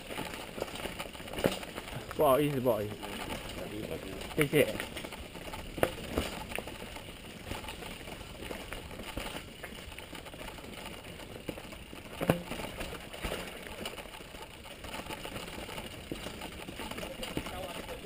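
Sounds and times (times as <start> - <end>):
bike knocking and rattling: 0.0 - 18.0
bike tyres rolling on dirt: 0.0 - 18.0.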